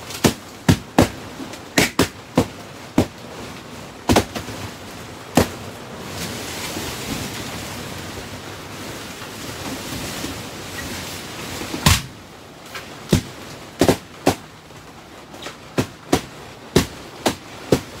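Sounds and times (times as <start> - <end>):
steady noisy hiss: 0.0 - 18.0.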